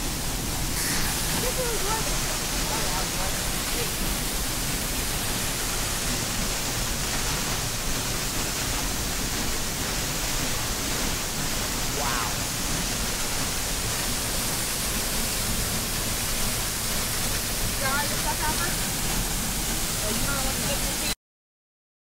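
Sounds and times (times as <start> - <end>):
waterfall rushing: 0.0 - 21.2.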